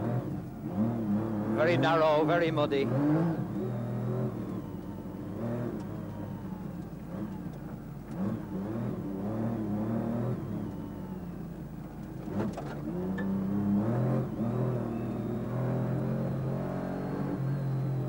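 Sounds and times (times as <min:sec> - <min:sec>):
rally car engine revving: 0:00.0 - 0:10.8, 0:12.0 - 0:18.0.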